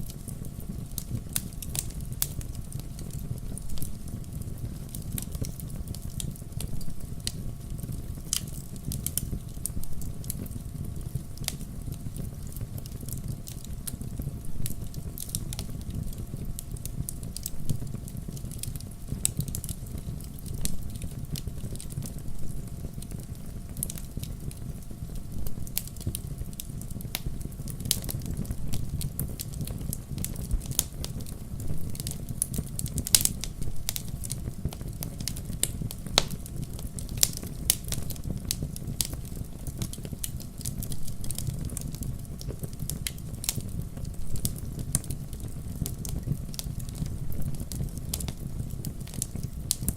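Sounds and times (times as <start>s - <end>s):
low rumble of flames: 0.0s - 49.9s
wood fire crackling and popping: 0.0s - 49.9s
burning logs snapping: 0.1s - 49.9s.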